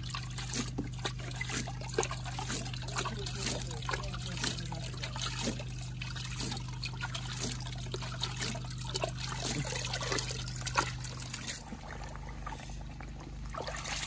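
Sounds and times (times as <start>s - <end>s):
low steady hum: 0.0s - 14.0s
small water splashes: 0.0s - 14.0s
water swirling in a plastic pan: 0.0s - 14.0s.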